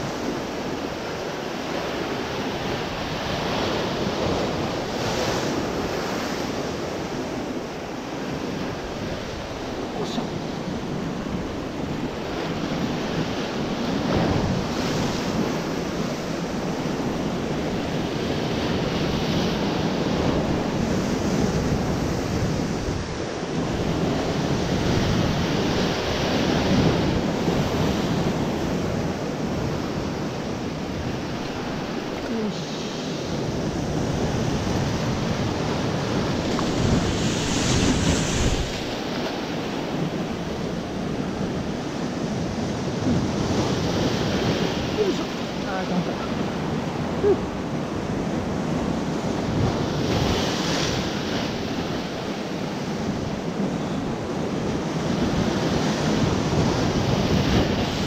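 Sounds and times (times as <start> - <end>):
surf breaking on rocky shore: 0.0 - 58.0
wind buffeting microphone: 0.0 - 58.0.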